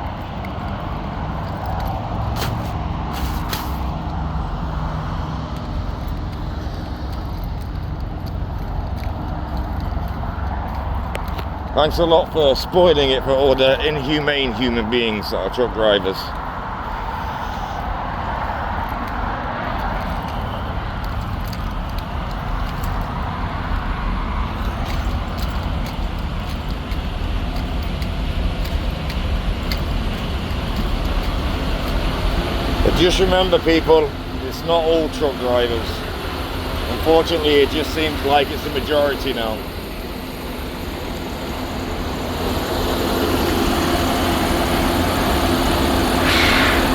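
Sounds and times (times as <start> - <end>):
trucks idling and traffic: 0.0 - 46.9
vehicle engine running: 0.0 - 46.9.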